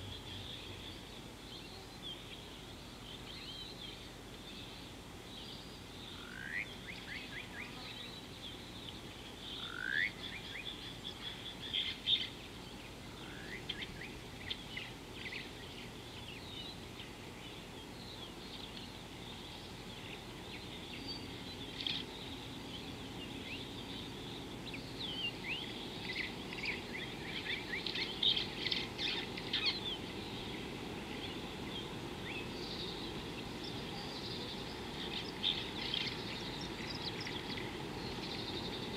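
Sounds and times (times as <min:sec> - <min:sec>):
birds chirping: 0:00.0 - 0:38.9
outdoor background hiss: 0:00.0 - 0:38.9.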